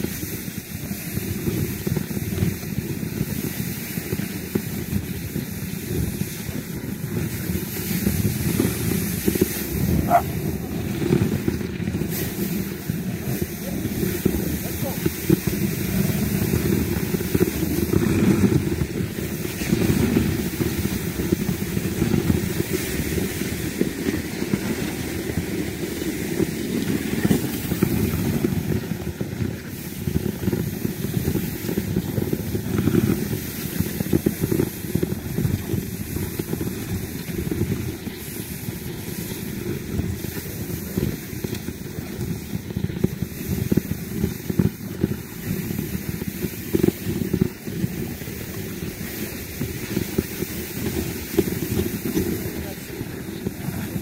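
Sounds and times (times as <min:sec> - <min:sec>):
rough rumbling over packed snow: 0:00.0 - 0:54.0
wind on microphone: 0:00.0 - 0:54.0.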